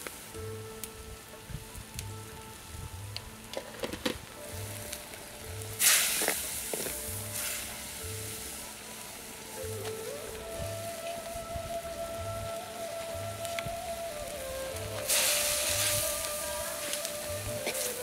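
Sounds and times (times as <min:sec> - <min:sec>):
curry sizzling in a pot: 0:00.0 - 0:11.3, 0:12.6 - 0:18.0
soft music with slow beat: 0:00.0 - 0:18.0.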